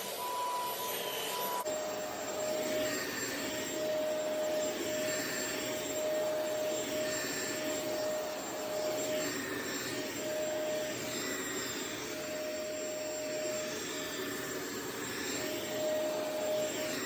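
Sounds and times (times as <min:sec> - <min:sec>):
carpet cleaner motor whine: 0:00.0 - 0:17.0.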